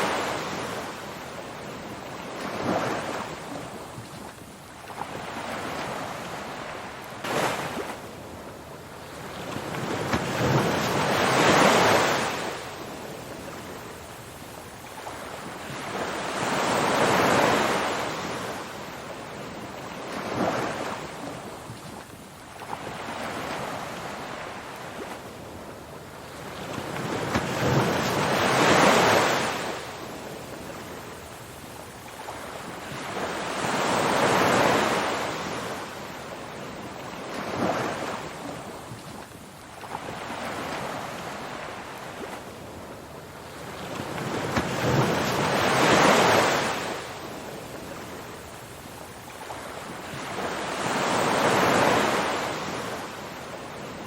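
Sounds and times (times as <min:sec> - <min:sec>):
waves breaking: 0:00.0 - 0:54.0.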